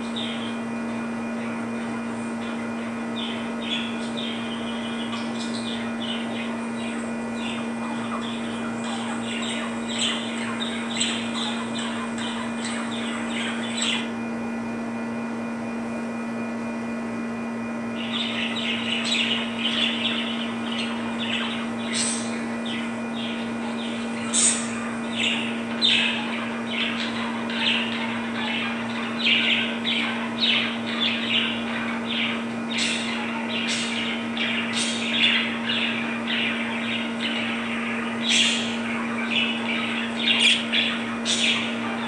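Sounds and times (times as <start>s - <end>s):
steady low hum: 0.0s - 42.0s
budgerigars chirping: 0.1s - 1.0s, 1.8s - 14.1s, 18.0s - 42.0s.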